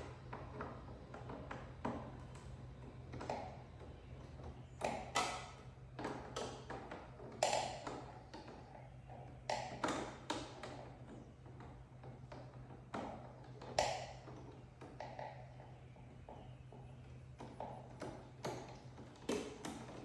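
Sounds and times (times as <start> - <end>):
hand tools and plastic parts tapping: 3.1 - 20.0.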